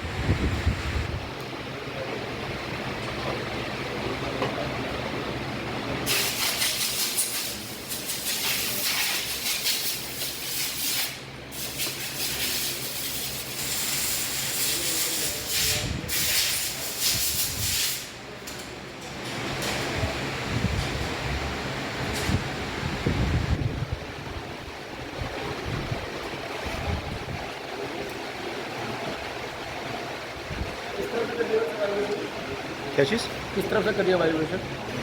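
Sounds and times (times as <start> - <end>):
wind and road hiss: 0.0 - 1.7, 6.0 - 18.2, 19.6 - 33.8.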